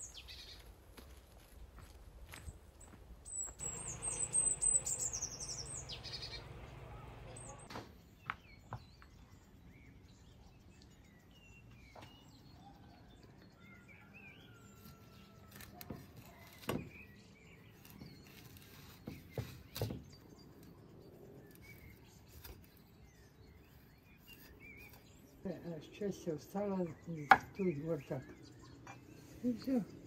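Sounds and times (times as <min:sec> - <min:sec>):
birds chirping faintly: 0:02.3 - 0:30.0.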